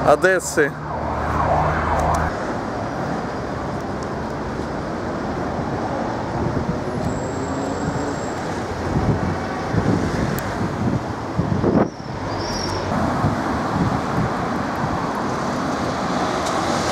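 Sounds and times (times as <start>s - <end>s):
city street traffic: 0.0s - 16.9s
vehicle engine hum: 0.0s - 16.9s.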